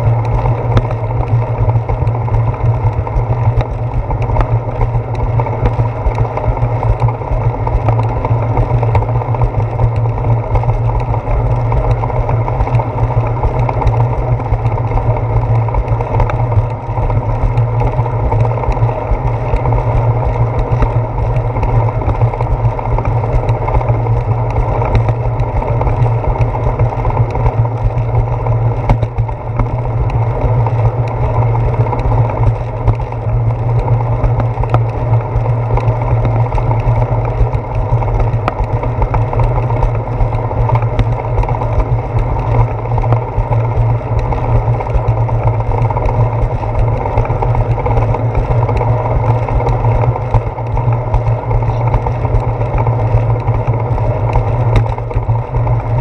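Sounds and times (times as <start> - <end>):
bicycle rumbling on wet concrete: 0.0 - 56.0.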